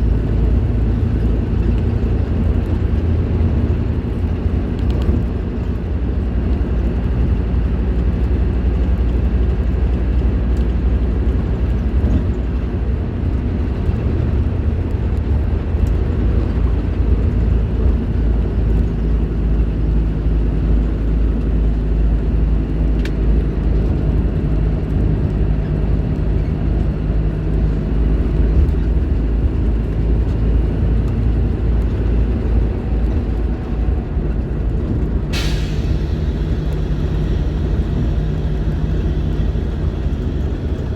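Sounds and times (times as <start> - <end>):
diesel bus engine running: 0.0 - 40.9.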